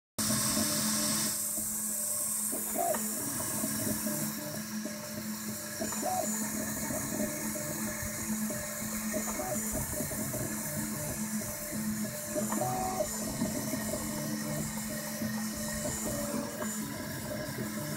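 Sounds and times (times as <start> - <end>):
cooling fans hum and hiss: 0.2 - 17.9
stepper motors whirring: 0.3 - 17.9.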